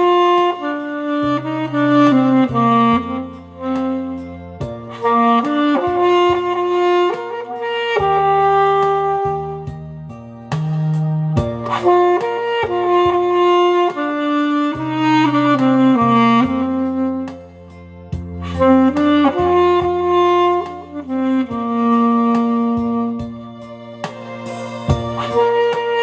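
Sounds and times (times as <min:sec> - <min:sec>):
alto saxophone melody: 0:00.0 - 0:26.0
backing track with bass: 0:00.0 - 0:26.0.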